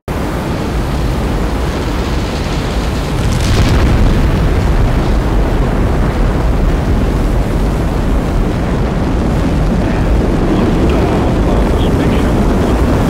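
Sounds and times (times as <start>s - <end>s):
rocket engines deep rumbling: 0.1s - 13.0s.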